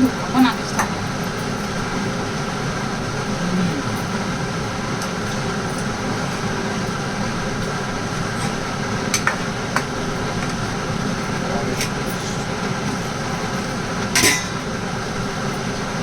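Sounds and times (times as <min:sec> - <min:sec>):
machine hum and whir: 0:00.0 - 0:16.0.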